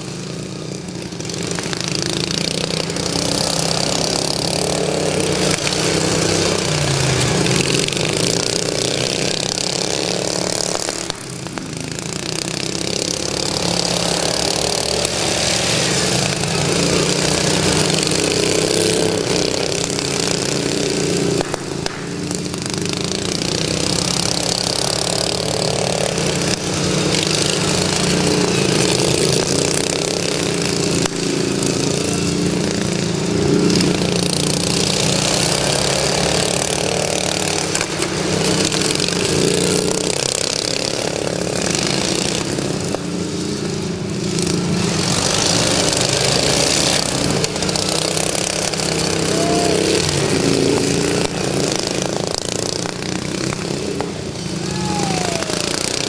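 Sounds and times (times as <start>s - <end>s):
lawn mower engines racing: 0.0s - 56.0s.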